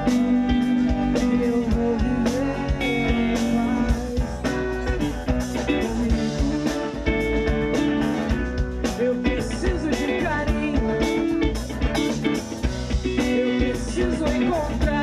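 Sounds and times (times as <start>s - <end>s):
drum kit: 0.0s - 15.0s
electric bass: 0.0s - 15.0s
electric guitar: 0.0s - 15.0s
lead singer singing: 0.0s - 15.0s.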